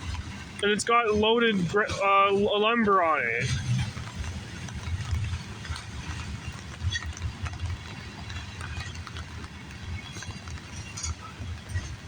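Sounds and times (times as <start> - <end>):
wheels clicking on rails: 0.0 - 12.0.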